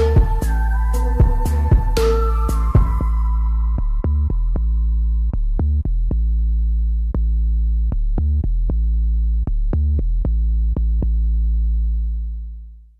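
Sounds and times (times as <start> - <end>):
electronic music with synth bass: 0.0 - 11.2.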